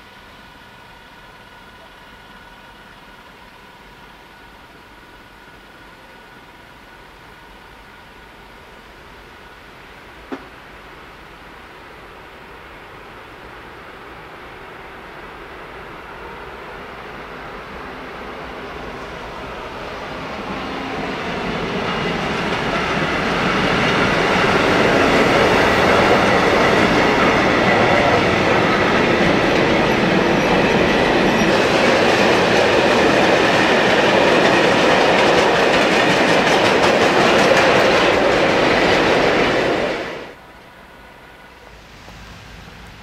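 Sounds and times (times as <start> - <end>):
freight train rolling past: 0.0 - 43.0.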